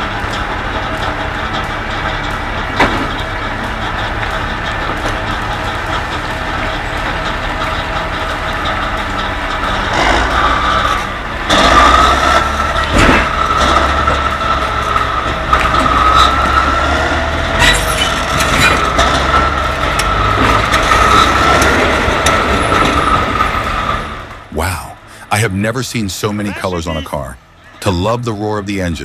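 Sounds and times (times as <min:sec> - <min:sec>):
heavy vehicle engine whining: 0:00.0 - 0:29.0.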